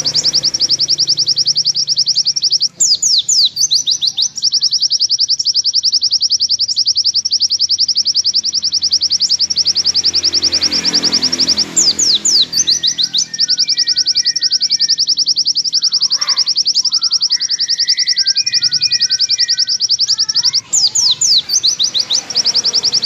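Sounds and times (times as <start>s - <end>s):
bird singing rapid trill: 0.0s - 23.0s
down-slurred bird whistles: 0.0s - 23.0s.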